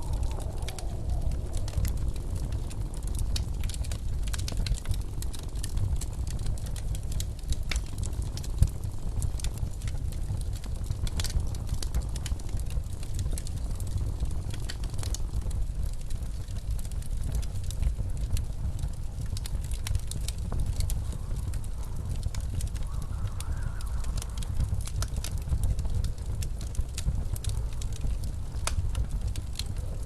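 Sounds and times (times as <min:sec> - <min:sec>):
blizzard wind rumble: 0:00.0 - 0:30.0
wood fire crackling: 0:00.0 - 0:30.0.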